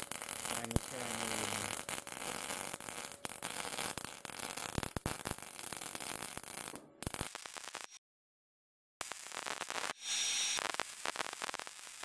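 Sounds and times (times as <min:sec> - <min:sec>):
arc welder crackling: 0:00.0 - 0:08.0, 0:09.0 - 0:12.0.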